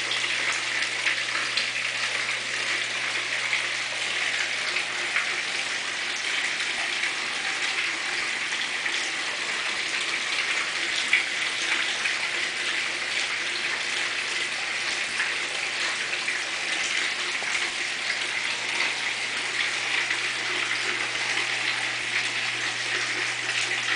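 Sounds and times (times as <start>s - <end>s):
water splashing on metal: 0.0s - 23.9s.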